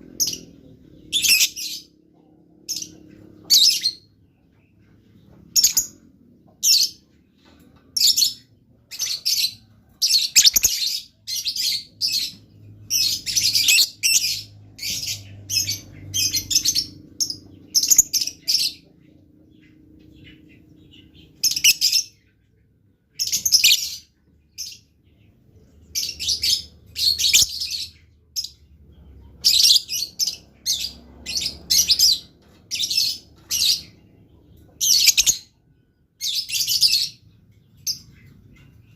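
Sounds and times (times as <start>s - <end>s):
lovebird chirping: 0.0s - 2.0s, 8.0s - 18.9s, 19.5s - 22.4s, 23.1s - 38.9s.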